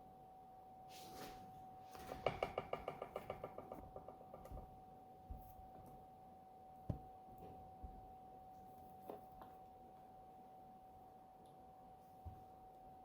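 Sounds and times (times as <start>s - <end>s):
faint high hum: 0.0s - 2.3s, 3.3s - 13.0s.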